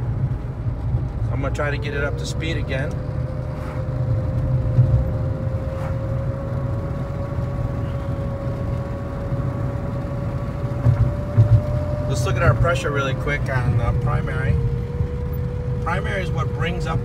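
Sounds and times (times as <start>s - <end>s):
car engine and road rumble: 0.0s - 17.0s
rising transmission whine: 0.0s - 17.0s.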